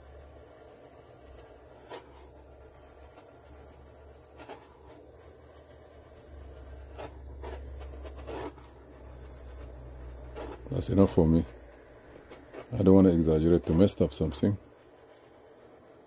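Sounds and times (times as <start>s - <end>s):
butane torch hissing: 0.0s - 16.0s.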